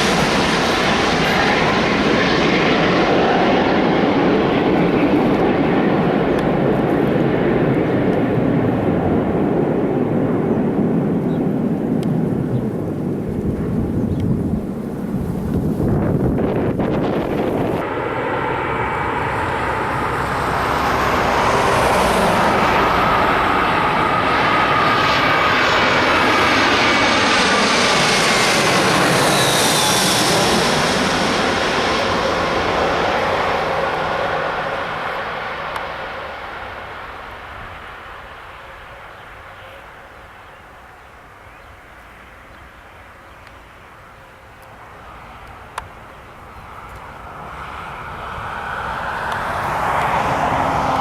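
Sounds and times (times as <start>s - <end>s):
jet airliner passing: 0.0s - 51.0s.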